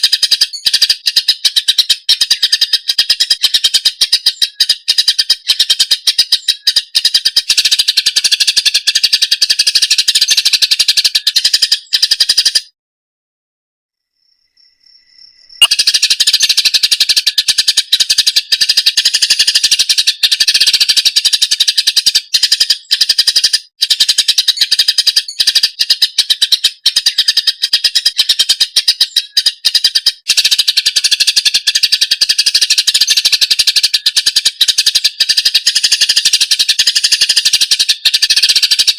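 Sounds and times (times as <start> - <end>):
bird singing fast chatter: 0.0 - 12.7, 15.4 - 38.9.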